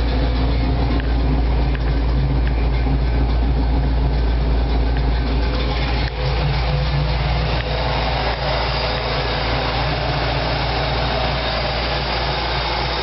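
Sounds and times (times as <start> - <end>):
car engine idling with deep rumble: 0.0 - 13.0.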